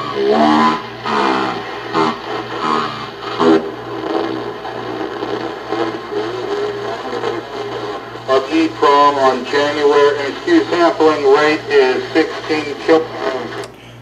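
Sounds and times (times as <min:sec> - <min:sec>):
gritty distorted digital playback: 0:00.0 - 0:13.7
low hum: 0:00.0 - 0:14.0.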